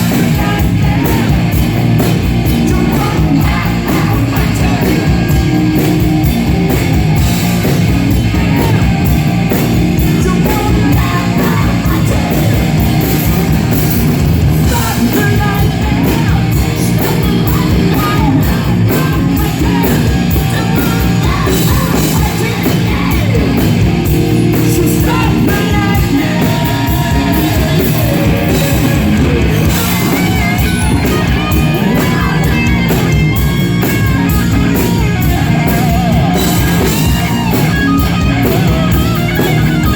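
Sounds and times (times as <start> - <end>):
person singing: 0.0 - 6.1, 8.3 - 13.7, 14.6 - 39.9
distorted electric guitars: 0.0 - 39.9
pounding drum kit: 0.0 - 39.9.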